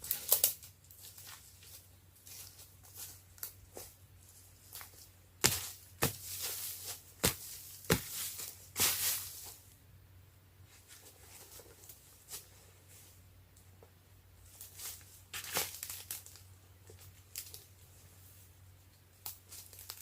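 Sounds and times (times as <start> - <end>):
rustling: 0.0 - 9.8, 10.6 - 20.0.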